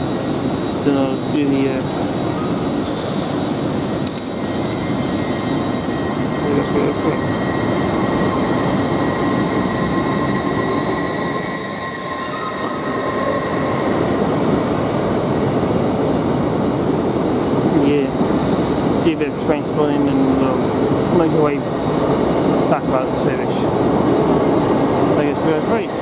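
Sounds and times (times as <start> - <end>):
train high whine: 0.0 - 26.0
train rumbling past: 0.0 - 26.0.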